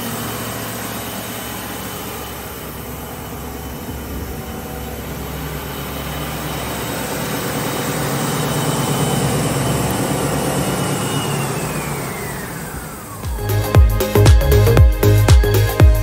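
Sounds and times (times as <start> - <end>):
belt sander whining: 0.0 - 16.0.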